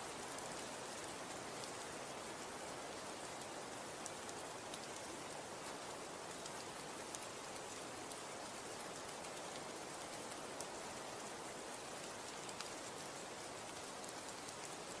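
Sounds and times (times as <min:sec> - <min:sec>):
snow falling hiss: 0:00.0 - 0:15.0.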